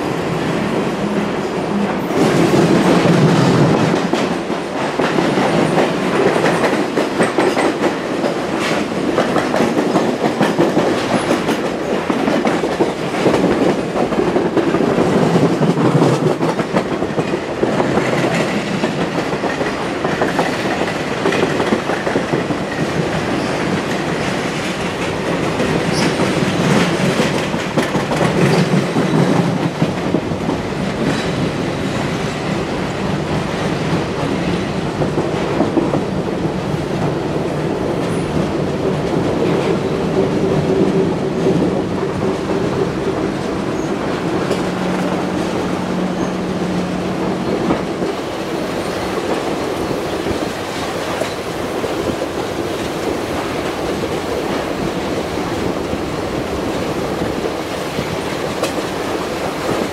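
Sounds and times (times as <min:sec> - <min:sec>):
clickety-clack over rail joints: 0:00.0 - 0:59.9
train wheels rumbling: 0:00.0 - 0:59.9.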